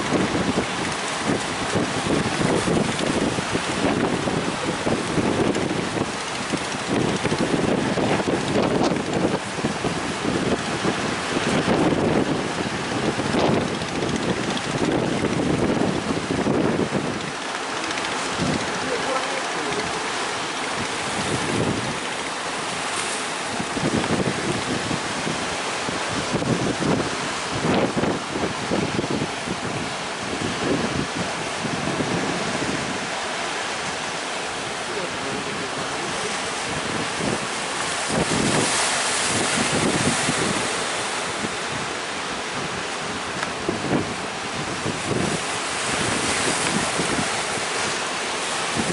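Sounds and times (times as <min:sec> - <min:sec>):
choppy sea waves: 0:00.0 - 0:48.9
wind buffeting microphone: 0:00.0 - 0:48.9.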